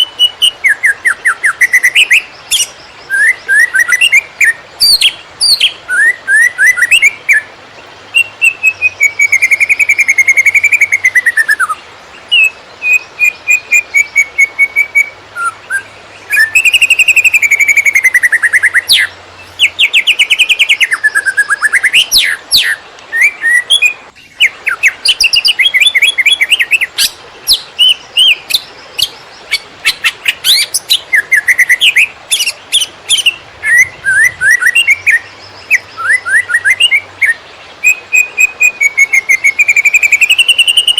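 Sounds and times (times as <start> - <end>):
bird singing rapid trills: 0.0 - 40.9.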